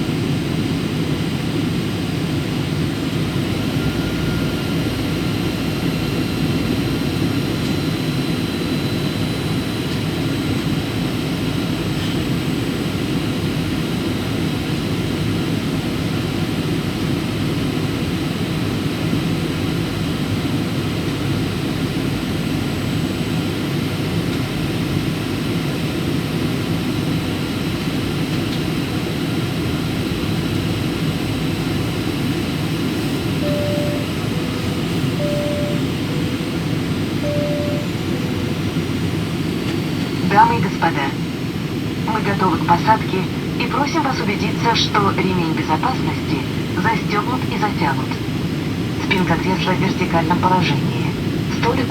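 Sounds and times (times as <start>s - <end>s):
jet engines in cabin: 0.0s - 51.9s.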